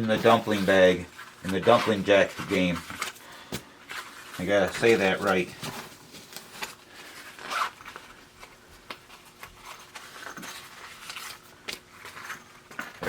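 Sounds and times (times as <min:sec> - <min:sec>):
paper tickets rustling: 0:00.0 - 0:12.4.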